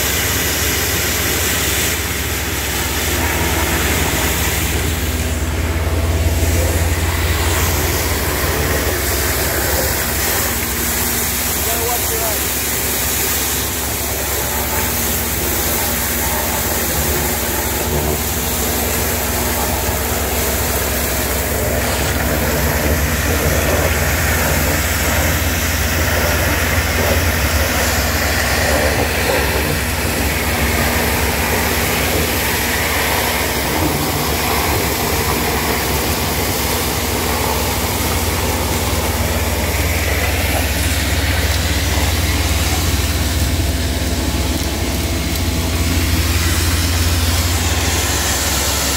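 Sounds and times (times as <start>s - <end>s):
steady humming tone: 0.0s - 48.9s
vacuum truck engine droning: 0.0s - 48.9s.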